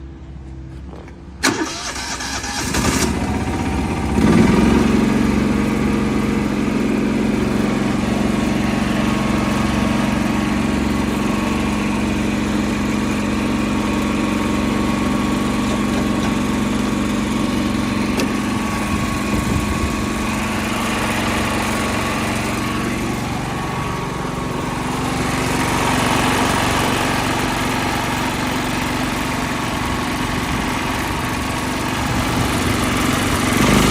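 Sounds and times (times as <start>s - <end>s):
engine cranking and running: 1.4s - 33.9s.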